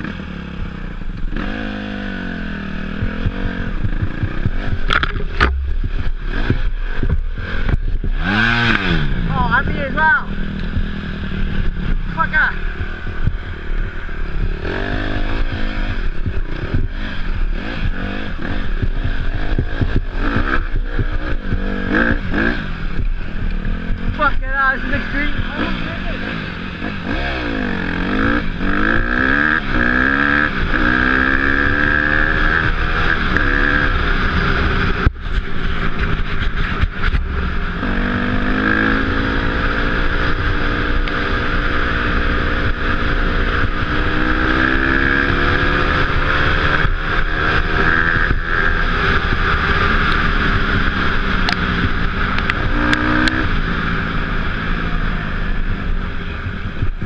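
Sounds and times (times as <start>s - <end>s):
off-road motorcycle engine: 0.0s - 57.0s.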